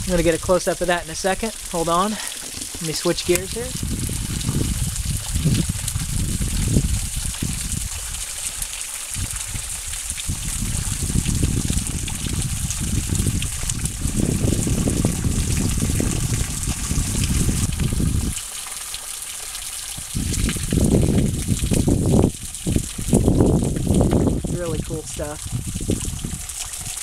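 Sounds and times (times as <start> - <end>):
water trickling and dripping: 0.0 - 27.0.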